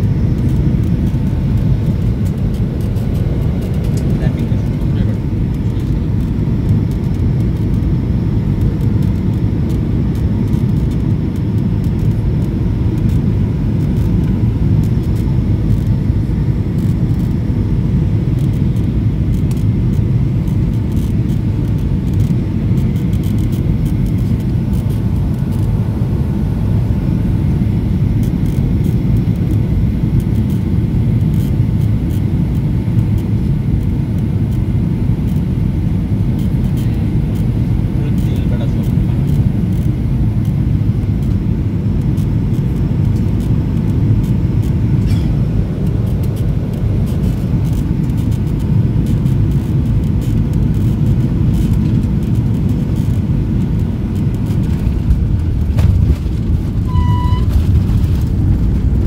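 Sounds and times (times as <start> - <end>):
airplane cabin rumble: 0.0 - 59.0
faint steady whine: 0.0 - 59.0.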